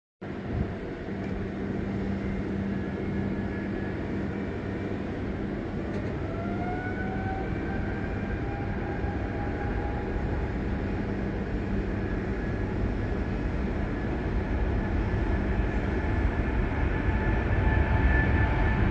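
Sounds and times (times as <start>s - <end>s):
jet engines running: 0.2s - 18.9s
rising jet engine whine: 0.2s - 18.9s.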